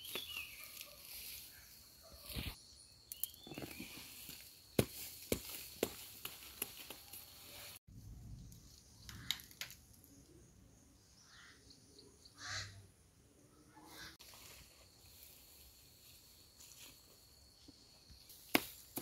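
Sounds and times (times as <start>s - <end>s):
outdoor ambience: 0.0s - 19.0s.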